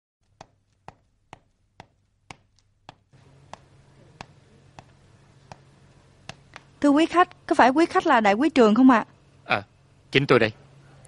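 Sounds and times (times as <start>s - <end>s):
faint low room hum: 0.3s - 11.0s.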